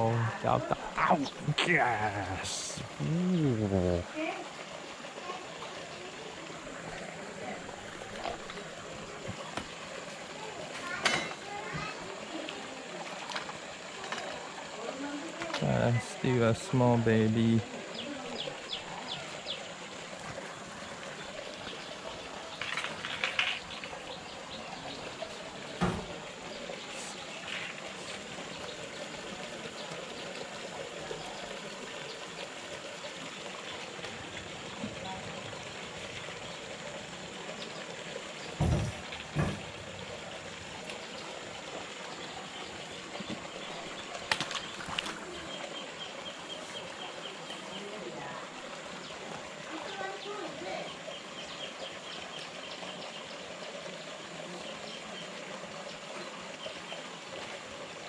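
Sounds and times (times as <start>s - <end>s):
water washing: 0.0s - 51.1s
water splashing and running off: 0.0s - 58.0s.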